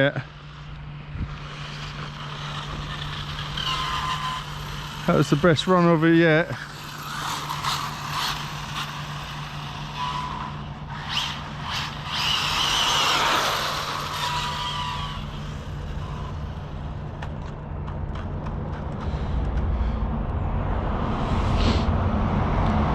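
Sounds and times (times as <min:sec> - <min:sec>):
electric motor whining: 0:00.0 - 0:19.7
steady low hum: 0:00.0 - 0:22.9.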